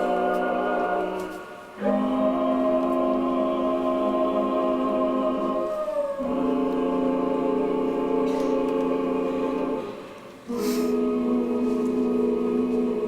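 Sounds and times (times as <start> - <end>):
choir holding sustained chords: 0.0 - 13.0.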